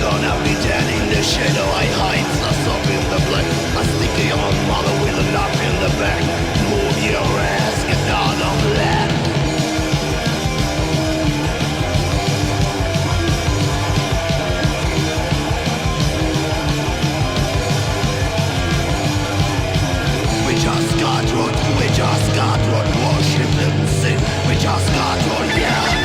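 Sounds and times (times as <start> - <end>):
heavy metal instrumental: 0.0 - 26.0.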